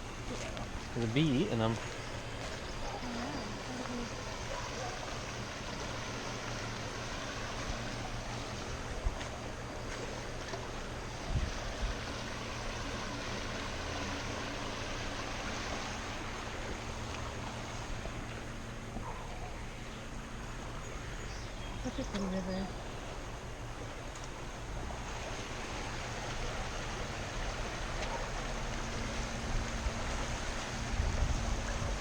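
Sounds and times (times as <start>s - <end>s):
river water rushing: 0.0s - 21.1s, 21.8s - 32.0s.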